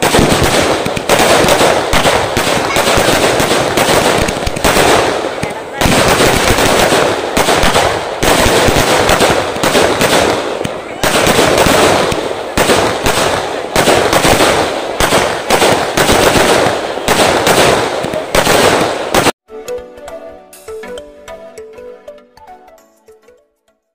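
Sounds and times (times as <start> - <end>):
firework crackling: 0.0 - 19.4
firework launches and bangs: 0.0 - 19.4.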